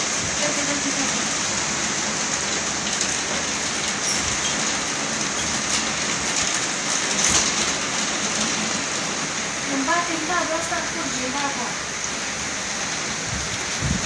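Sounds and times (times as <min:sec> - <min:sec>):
torrential rain pouring: 0:00.0 - 0:14.0.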